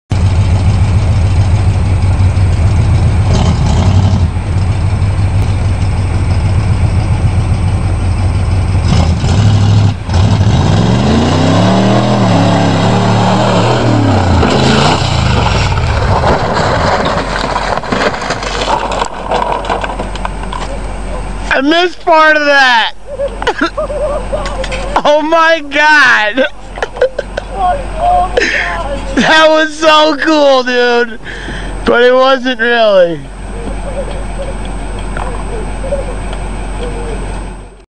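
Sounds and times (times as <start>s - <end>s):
truck engine revving: 0.1s - 37.8s.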